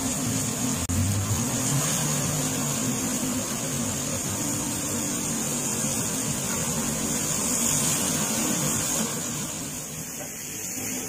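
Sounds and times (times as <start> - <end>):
flambe flare-up roaring: 0.0 - 11.0.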